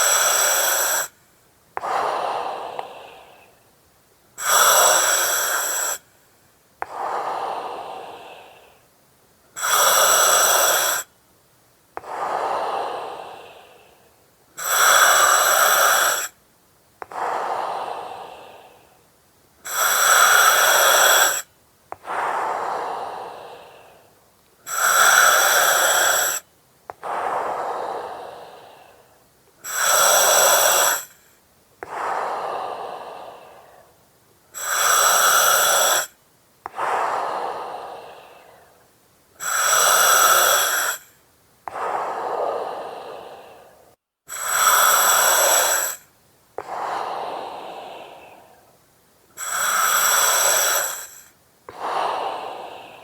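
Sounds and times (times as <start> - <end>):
breathing through oxygen mask: 0.0 - 1.2, 1.8 - 3.6, 4.4 - 6.1, 9.6 - 11.1, 12.0 - 14.0, 14.6 - 16.4, 19.6 - 38.8, 39.4 - 53.0.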